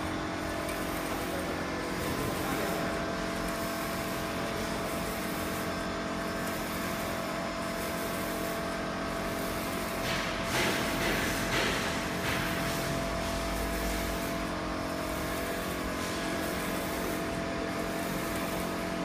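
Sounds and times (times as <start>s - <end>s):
printer mechanical hum and whine: 0.0s - 19.0s.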